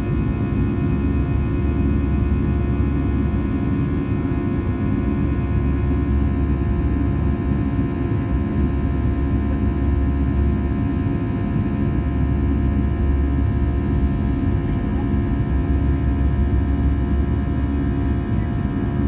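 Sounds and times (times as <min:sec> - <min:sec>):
airplane engine drone: 0:00.0 - 0:19.0.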